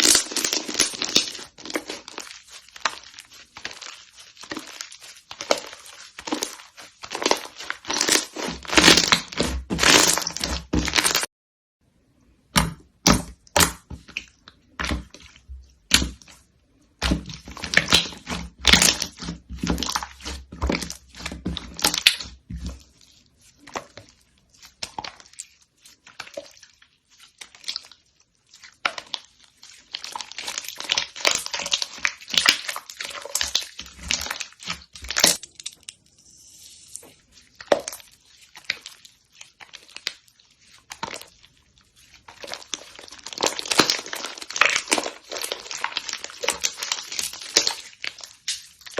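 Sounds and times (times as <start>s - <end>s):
slime crackling and popping: 0.0s - 11.3s, 17.0s - 22.8s, 23.5s - 36.1s, 36.9s - 48.9s.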